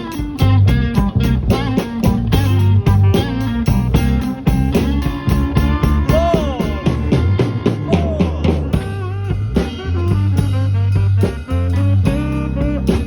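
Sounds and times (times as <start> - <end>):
bass guitar: 0.0 - 13.0
drum kit: 0.0 - 13.0
electric guitar lead: 0.0 - 13.0.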